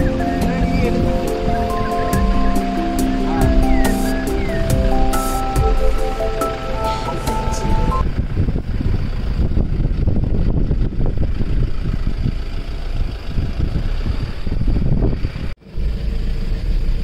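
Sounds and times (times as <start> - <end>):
vehicle engine low rumble: 0.0 - 17.0.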